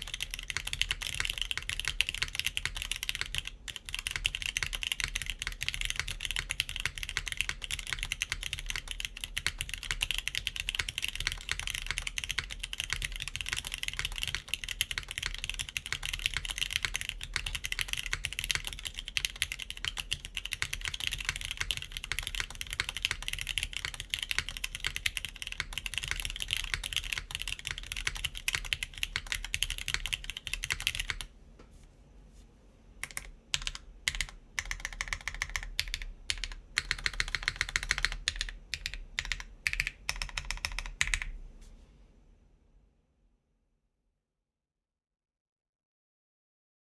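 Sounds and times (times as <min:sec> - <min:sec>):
typing on mechanical keyboard: 0:00.0 - 0:31.3, 0:33.0 - 0:41.4.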